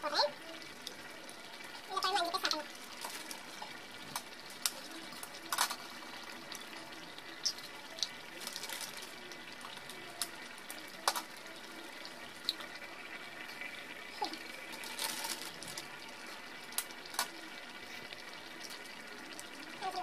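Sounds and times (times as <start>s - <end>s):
thick gravy bubbling: 0.0s - 20.0s.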